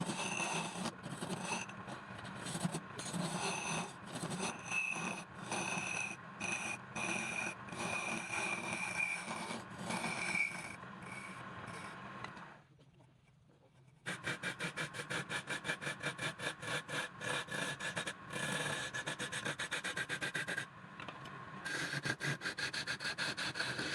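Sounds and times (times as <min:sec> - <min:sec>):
tool rasping against wood: 0:00.0 - 0:12.0, 0:14.1 - 0:20.7, 0:21.7 - 0:23.9.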